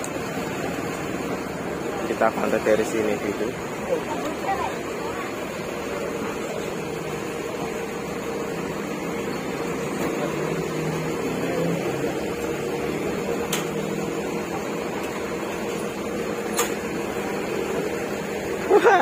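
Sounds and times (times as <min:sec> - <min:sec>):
air conditioning hum: 0:00.0 - 0:19.0
bus engine idling: 0:00.0 - 0:19.0.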